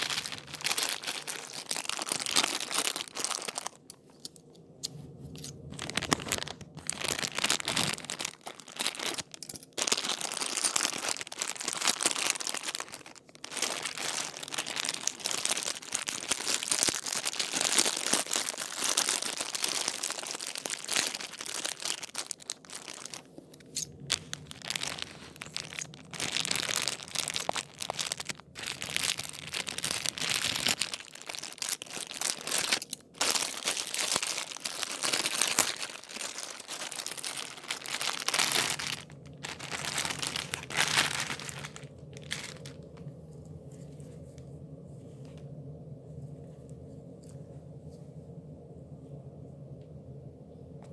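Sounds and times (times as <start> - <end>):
packaging crinkling and tearing: 0.0 - 4.4, 5.4 - 43.1.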